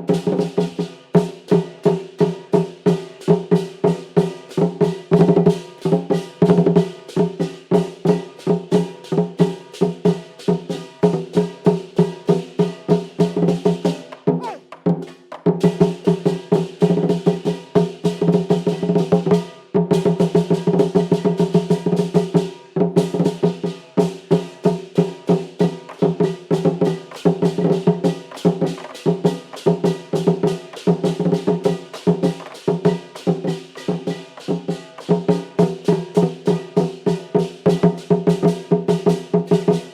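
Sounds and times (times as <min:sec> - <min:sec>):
percussion ensemble playing: 0:00.0 - 0:39.9.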